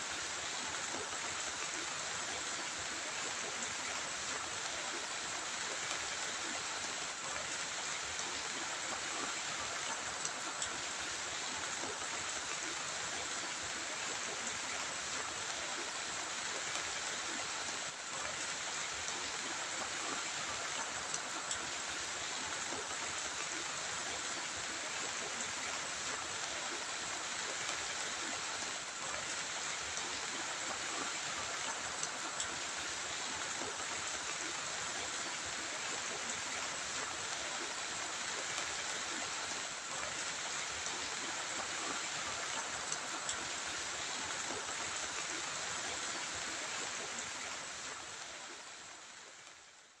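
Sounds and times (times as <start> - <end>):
heavy rain: 0.0 - 49.8.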